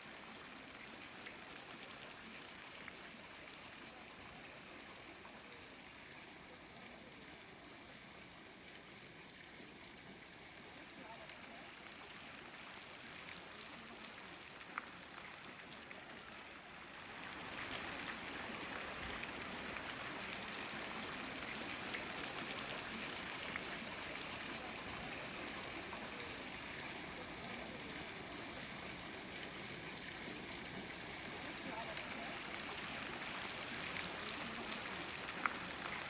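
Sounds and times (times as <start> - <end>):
rushing water: 0.0 - 36.0.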